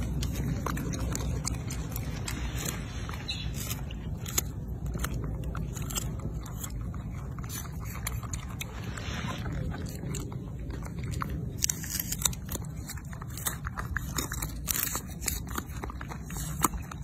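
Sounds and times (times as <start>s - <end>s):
monkeys chewing crunchy fruit: 0.0s - 17.0s
steady low rumble: 0.0s - 17.0s.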